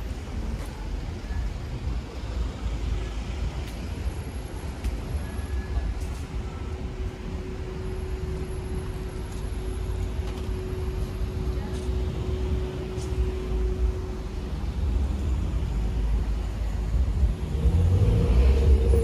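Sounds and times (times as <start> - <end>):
passing cars and buses rumbling: 0.0 - 19.0.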